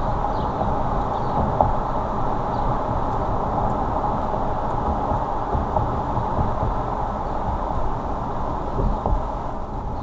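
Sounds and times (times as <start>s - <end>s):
car road and tyre noise: 0.0s - 10.0s.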